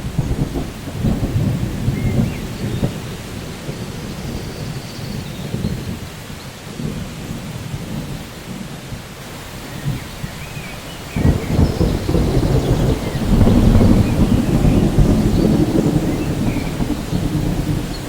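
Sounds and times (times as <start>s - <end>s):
rolling thunder: 0.0s - 9.0s, 9.6s - 18.0s
steady rain: 0.0s - 18.0s.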